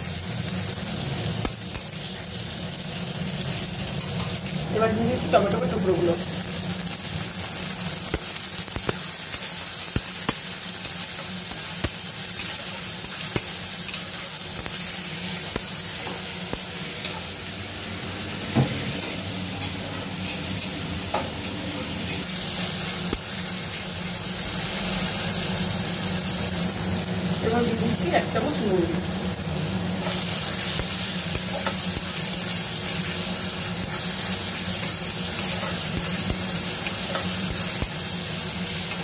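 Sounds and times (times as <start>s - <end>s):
onions sizzling in hot oil: 0.0s - 39.0s.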